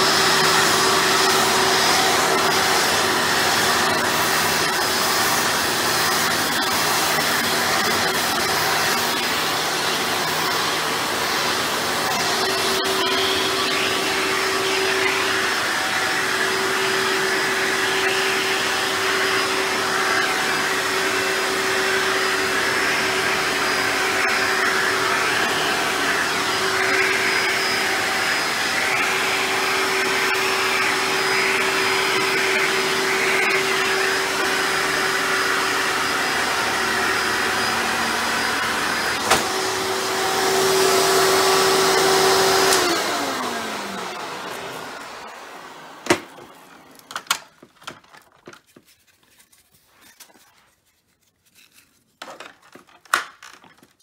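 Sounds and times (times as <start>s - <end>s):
vacuum cleaner running: 0.0s - 49.4s.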